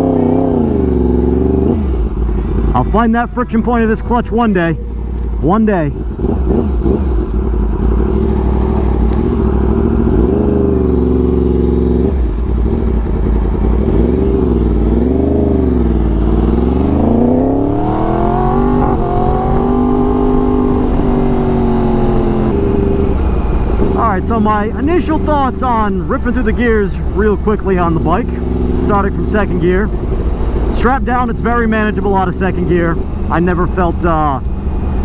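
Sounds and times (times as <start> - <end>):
motorcycle accelerating through gears: 0.0 - 3.0, 6.0 - 35.0.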